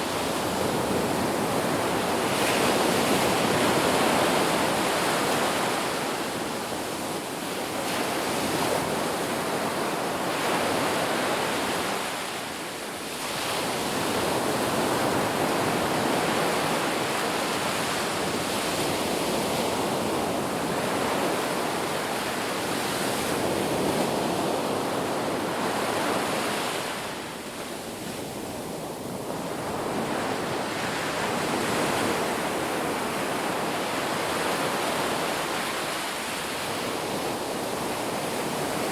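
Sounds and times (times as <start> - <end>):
ocean surf breaking waves: 0.0 - 38.9.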